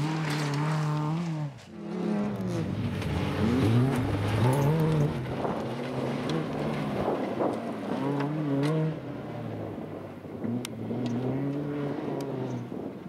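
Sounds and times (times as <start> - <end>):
rally car engine: 0.0 - 13.0.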